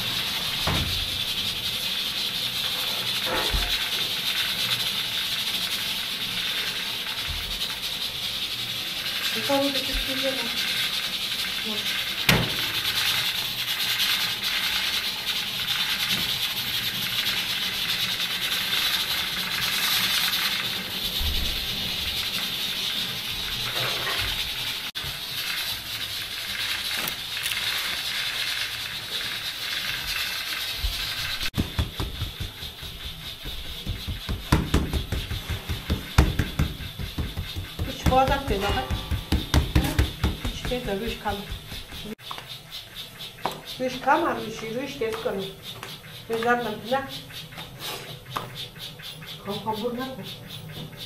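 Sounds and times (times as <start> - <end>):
gas burner hissing: 0.0 - 51.0.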